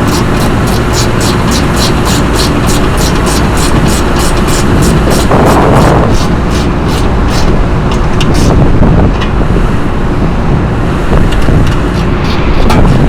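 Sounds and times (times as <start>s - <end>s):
exhaust fan air rushing: 0.0s - 13.0s.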